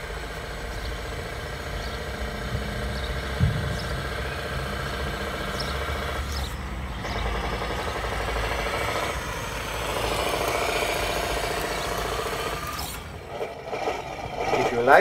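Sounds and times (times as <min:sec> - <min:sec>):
simulated diesel engine from speaker: 0:00.0 - 0:15.0.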